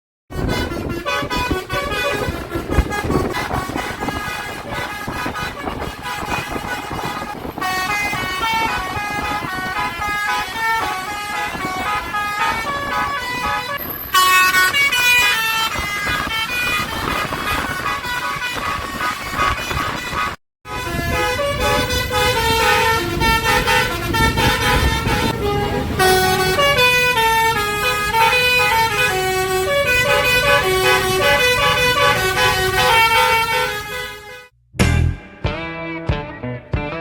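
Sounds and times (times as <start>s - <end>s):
multi-tone bus horn melodies: 0.3s - 35.2s
engine and road noise: 0.3s - 35.9s.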